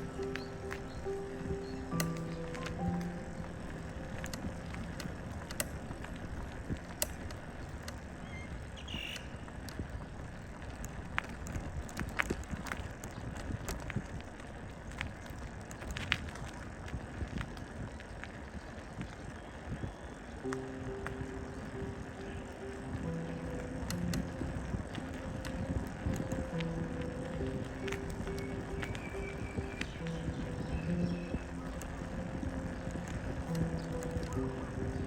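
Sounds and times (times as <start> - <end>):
bicycle tyres rumbling: 0.0 - 35.0
light bicycle clicks: 0.0 - 35.0.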